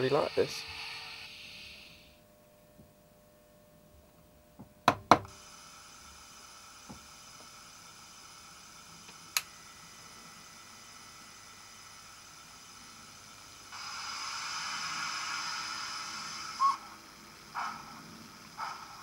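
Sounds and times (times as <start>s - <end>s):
steam sound hiss with tones: 0.0s - 2.2s, 5.3s - 19.0s.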